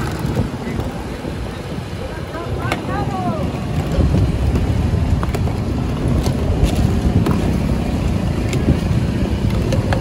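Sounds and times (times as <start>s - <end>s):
street noise rumble: 0.0s - 10.0s.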